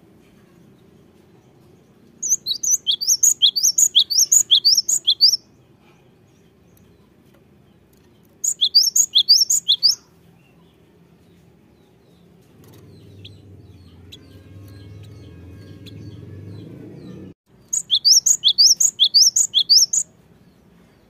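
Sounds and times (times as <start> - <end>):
bird rapid high chirping song: 1.3 - 5.7, 6.3 - 20.7.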